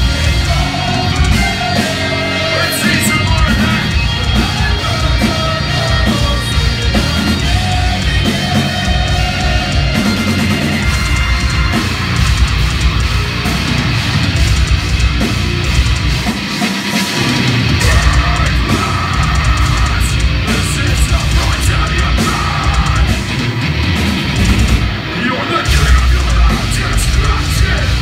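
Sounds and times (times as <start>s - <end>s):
metal band playing live: 0.0s - 28.0s.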